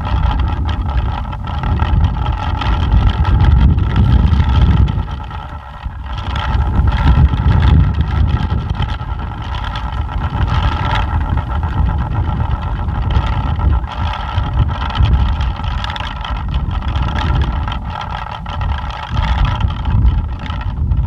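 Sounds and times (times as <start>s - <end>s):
pinwheel whirring flutter: 0.0s - 21.0s
wind buffeting microphone: 0.0s - 21.0s.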